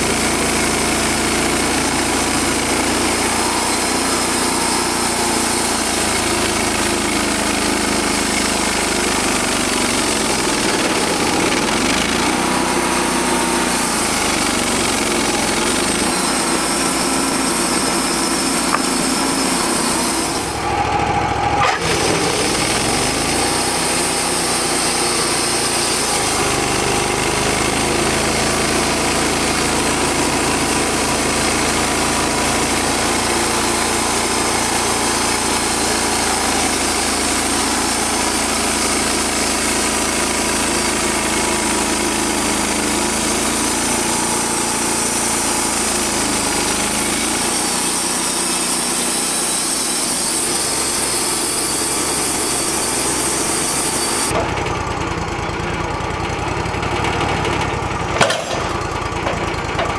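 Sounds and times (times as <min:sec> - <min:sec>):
band saw cutting log: 0:00.0 - 0:54.8, 0:57.0 - 0:59.9
gas engine running: 0:00.0 - 0:59.9.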